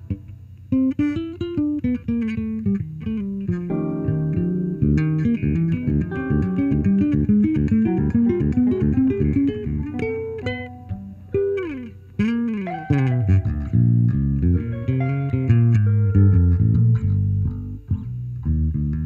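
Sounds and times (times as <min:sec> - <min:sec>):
electric bass: 0:00.0 - 0:19.0
electric guitar: 0:00.0 - 0:19.0.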